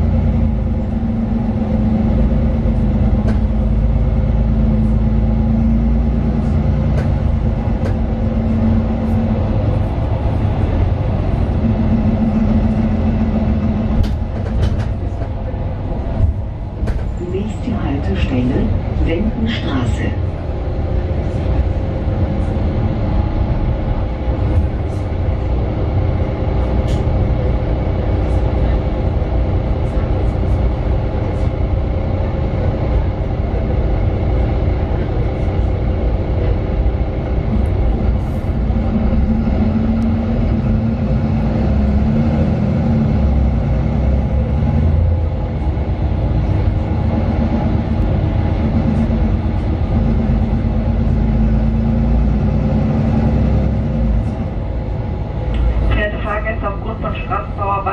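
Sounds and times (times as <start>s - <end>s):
bus diesel engine drone: 0.0s - 57.9s.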